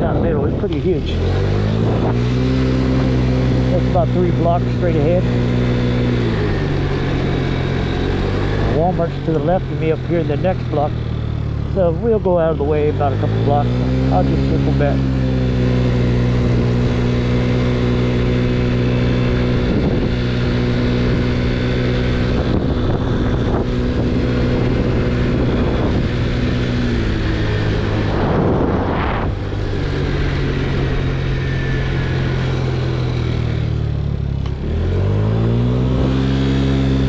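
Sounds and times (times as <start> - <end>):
scooter engine running: 0.0 - 37.0.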